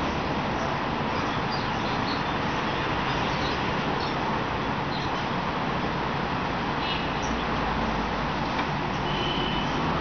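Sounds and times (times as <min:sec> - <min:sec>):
small birds chirping: 0:00.0 - 0:05.4, 0:06.8 - 0:09.9.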